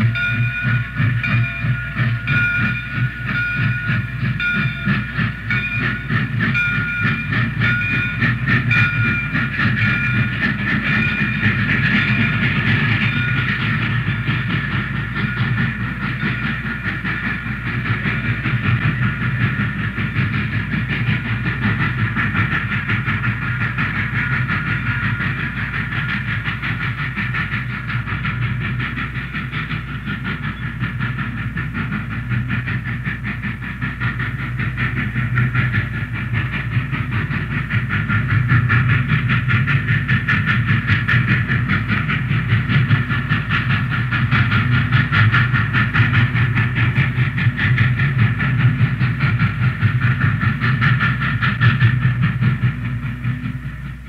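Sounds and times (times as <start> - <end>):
locomotive engine pulsing: 0.0 - 54.0
rail noise: 0.0 - 54.0.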